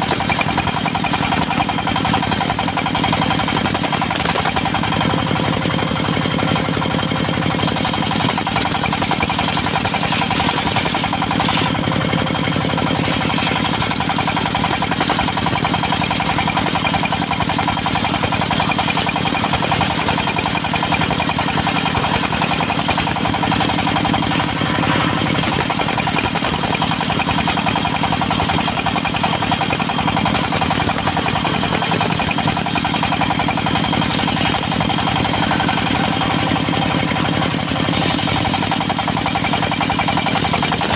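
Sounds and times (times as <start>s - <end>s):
diesel engine knocking: 0.0s - 40.9s.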